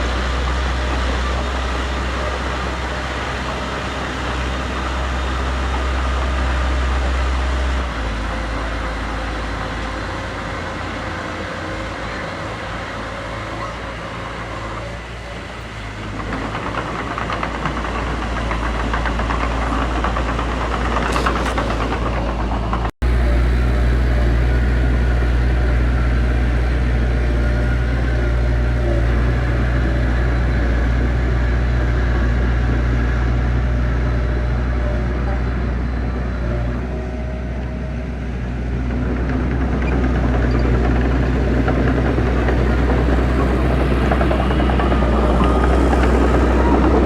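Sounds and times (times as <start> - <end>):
heavy diesel engine humming: 0.0 - 47.0.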